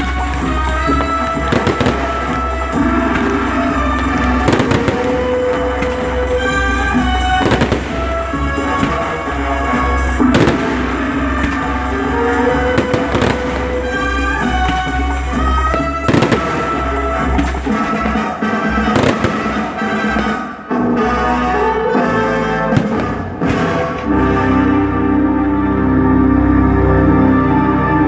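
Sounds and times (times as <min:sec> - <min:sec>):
fireworks bangs: 0:00.0 - 0:20.8, 0:22.7 - 0:24.8
loud music: 0:00.0 - 0:28.0.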